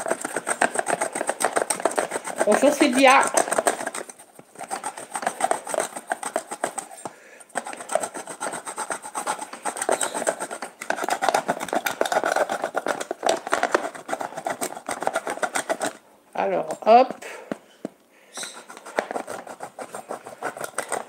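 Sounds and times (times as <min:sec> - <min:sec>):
cheese rasping on grater: 0:00.0 - 0:16.0, 0:18.5 - 0:21.0.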